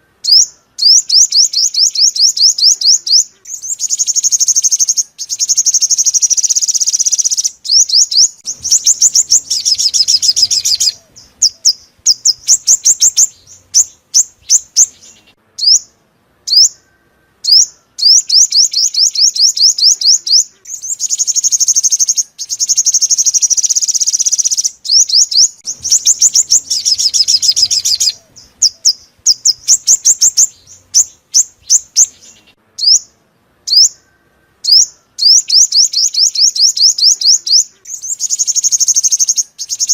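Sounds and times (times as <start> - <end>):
sharp bird chirps: 0.0 - 39.9
sunbird buzzy trills: 0.0 - 39.9.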